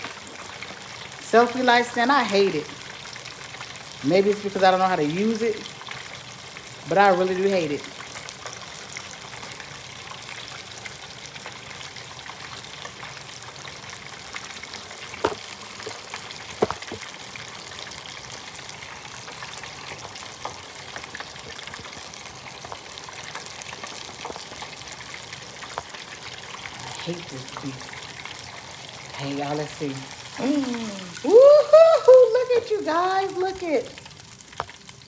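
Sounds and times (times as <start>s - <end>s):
shrimp deep-frying in hot oil: 0.0s - 35.0s.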